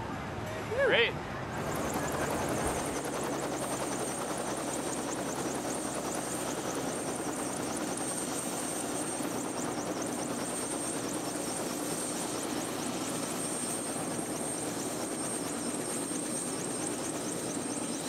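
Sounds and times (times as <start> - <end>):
helicopter rotor and engine: 1.4 - 18.0.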